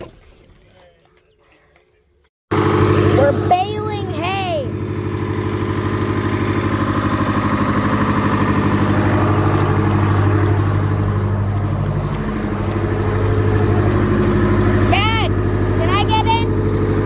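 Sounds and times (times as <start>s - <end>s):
tractor engine running: 2.5s - 17.0s.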